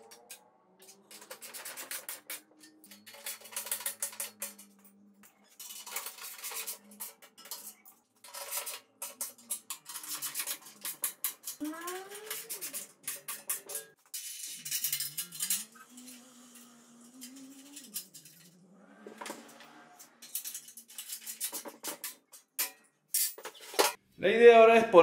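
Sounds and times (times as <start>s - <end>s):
metallic clinks of steel parts: 0.0s - 24.0s.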